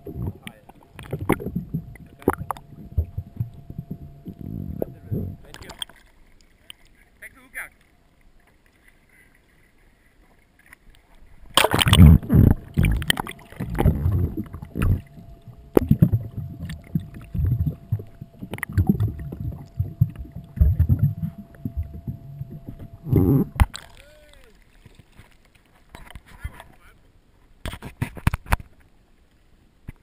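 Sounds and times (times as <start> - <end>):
water rushing and bubbling underwater: 0.0 - 7.0, 7.9 - 26.6
faint steady whine: 0.0 - 27.6.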